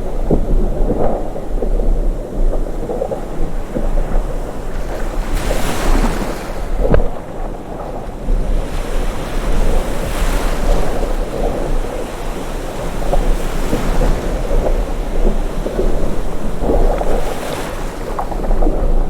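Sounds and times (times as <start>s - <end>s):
low rumble of wind: 0.0s - 19.0s
sea waves washing in: 0.0s - 19.0s.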